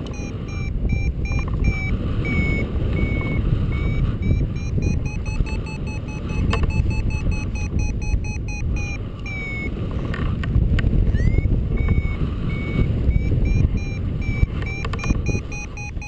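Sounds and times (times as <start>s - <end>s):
variometer beeping: 0.0s - 9.9s, 11.0s - 16.0s
wind rush on microphone: 0.0s - 16.0s.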